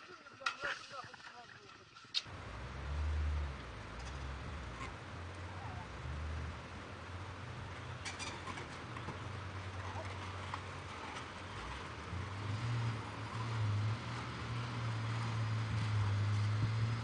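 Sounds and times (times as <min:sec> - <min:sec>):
engine humming: 0:02.2 - 0:17.0.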